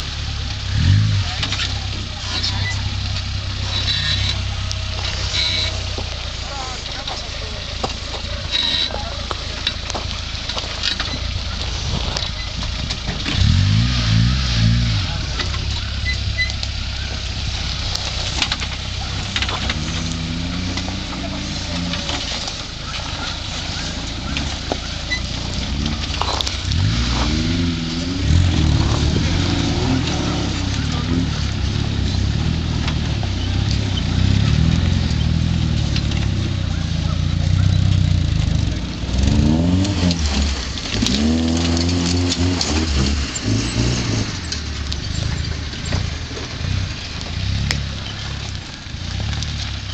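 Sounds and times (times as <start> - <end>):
gravel crackling under tyres: 0.0 - 49.9
vehicle engine low rumble: 0.0 - 49.9.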